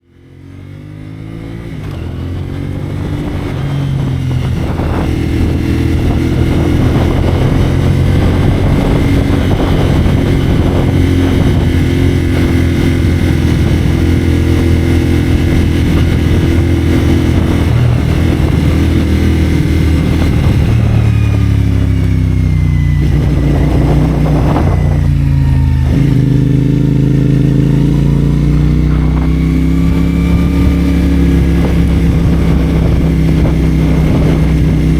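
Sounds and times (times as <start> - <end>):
motorcycle engine while riding: 0.0 - 34.9
wind rush: 1.8 - 34.9.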